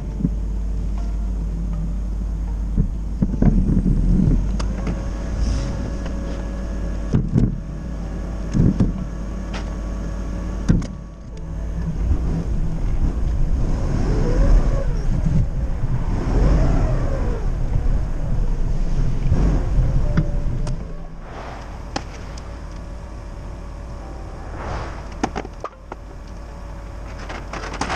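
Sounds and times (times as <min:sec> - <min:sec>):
forklift engine running: 0:00.0 - 0:27.9.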